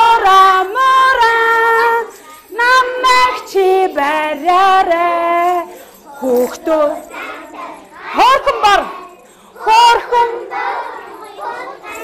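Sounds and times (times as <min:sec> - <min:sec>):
woman and children singing: 0:00.0 - 0:12.0.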